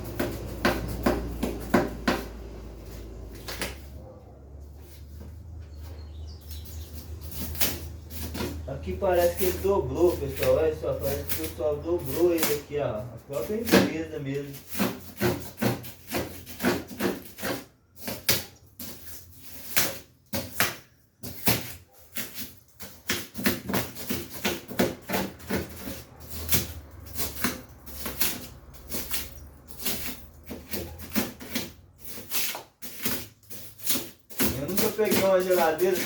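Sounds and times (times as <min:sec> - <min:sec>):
clicks and scrapes of hand work: 0:00.0 - 0:04.0, 0:04.8 - 0:36.0.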